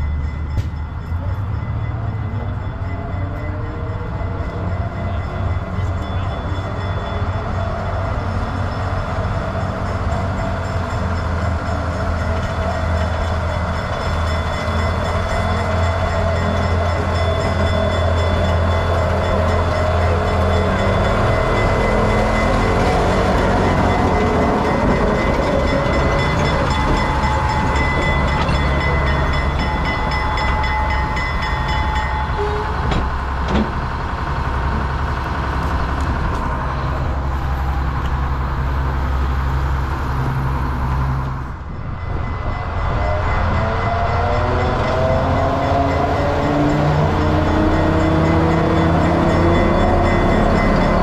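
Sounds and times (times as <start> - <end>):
diesel locomotive droning: 0.0 - 51.0.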